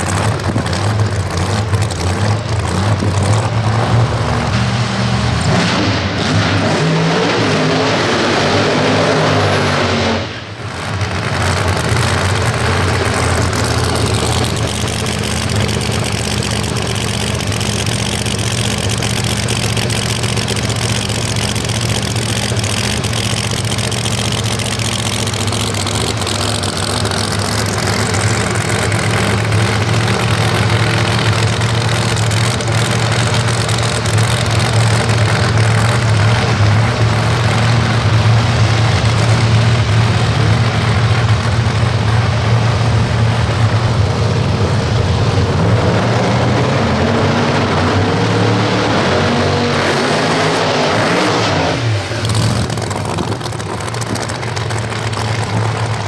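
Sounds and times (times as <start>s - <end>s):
car engine idling: 0.0s - 5.4s, 10.4s - 45.7s, 51.8s - 56.0s.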